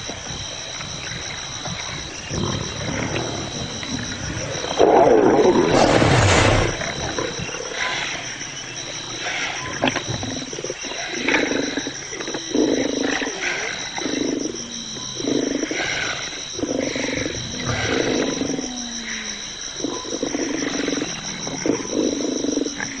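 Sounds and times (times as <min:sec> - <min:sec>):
big cat growling: 0:01.0 - 0:08.2, 0:09.2 - 0:23.0.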